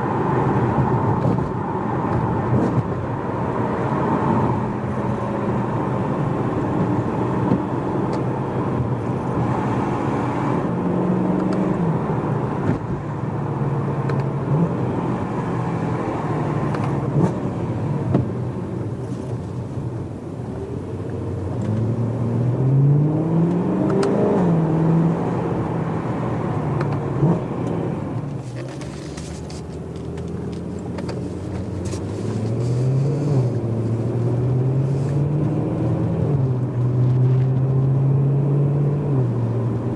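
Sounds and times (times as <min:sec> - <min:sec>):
car engine revving from cabin: 0:03.6 - 0:18.3, 0:21.3 - 0:29.0, 0:29.6 - 0:39.9.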